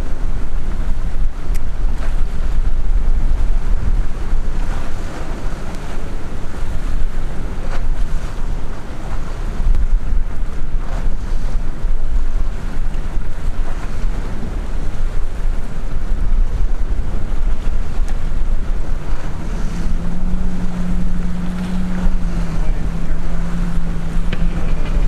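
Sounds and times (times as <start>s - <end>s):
low motor hum: 0.0s - 25.0s
water lapping at boat: 0.0s - 25.0s
wind buffeting microphone: 0.0s - 25.0s.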